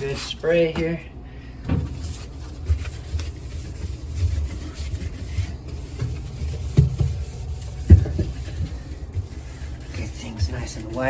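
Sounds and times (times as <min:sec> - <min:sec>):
scrub pad scrubbing: 0:02.0 - 0:11.0.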